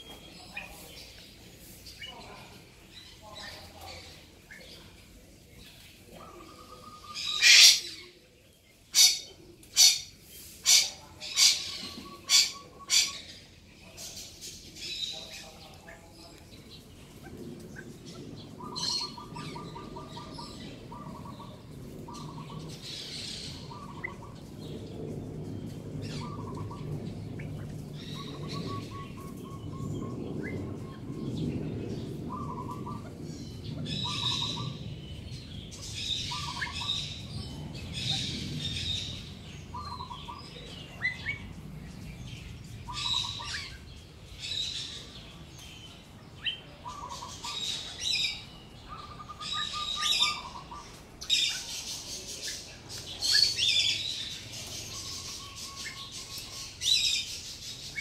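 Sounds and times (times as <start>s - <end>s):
loud sharp bird calls: 6.3s - 8.2s, 8.8s - 58.0s.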